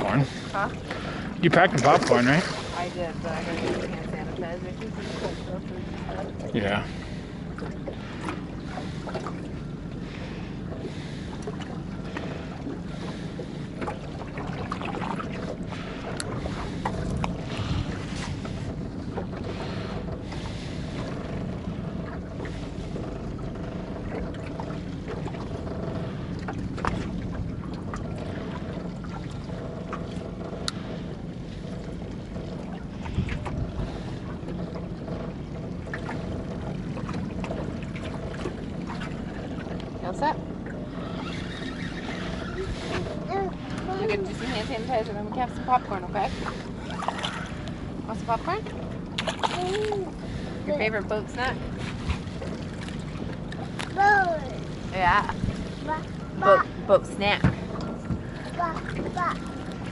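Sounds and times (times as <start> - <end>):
boat motor humming: 0.0 - 59.9
wind buffeting microphone: 0.0 - 59.9.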